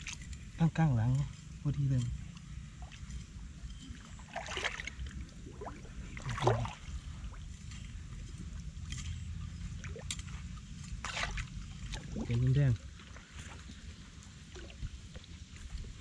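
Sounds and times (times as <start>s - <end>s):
steady low rumble: 0.0s - 16.0s
water sloshing and splashing: 0.0s - 16.0s.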